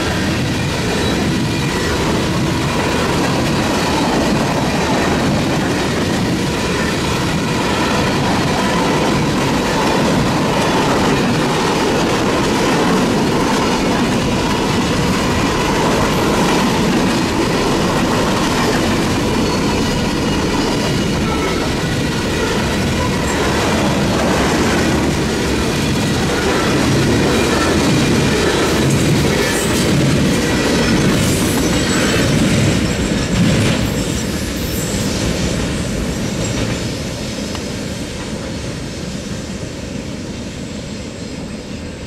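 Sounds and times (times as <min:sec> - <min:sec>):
freight train wheels on rails: 0:00.0 - 0:42.0.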